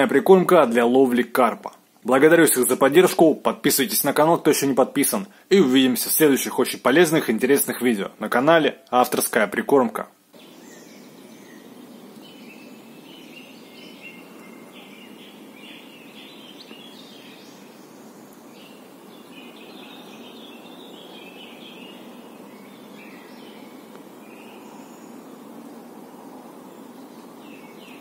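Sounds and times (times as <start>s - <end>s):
outdoor background hiss: 0.0s - 28.0s
songbirds chirping: 0.0s - 28.0s.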